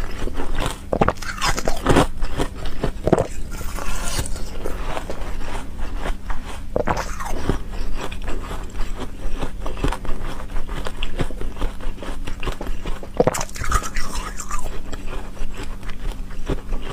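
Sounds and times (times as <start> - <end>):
ice crunching being chewed: 0.0 - 16.9.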